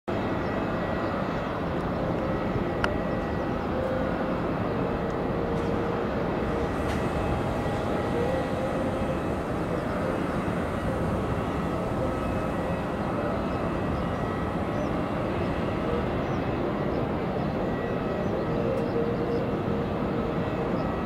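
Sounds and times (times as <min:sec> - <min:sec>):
jet engines rumbling with whine: 0:00.1 - 0:21.0.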